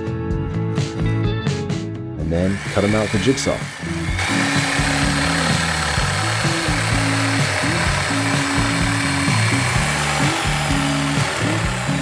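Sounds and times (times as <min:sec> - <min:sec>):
background music: 0:00.0 - 0:12.0
jigsaw cutting wood: 0:02.2 - 0:12.0.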